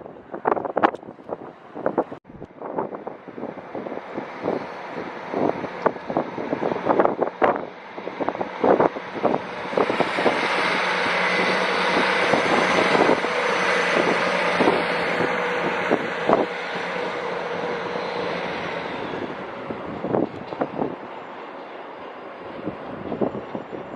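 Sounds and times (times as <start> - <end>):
train rushing past: 2.6 - 23.9.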